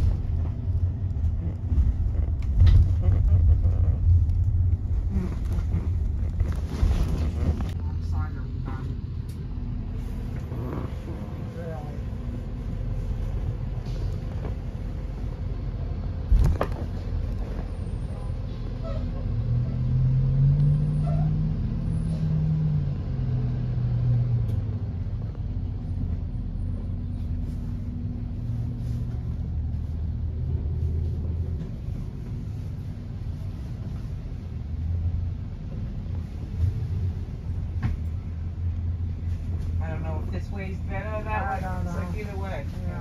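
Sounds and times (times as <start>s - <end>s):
buses pulling away: 4.1s - 16.3s, 16.9s - 42.8s.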